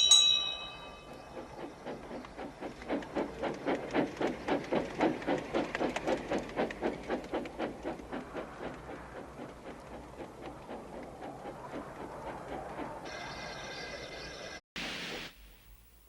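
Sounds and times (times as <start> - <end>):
steam locomotive chuffing: 0.0 - 13.7.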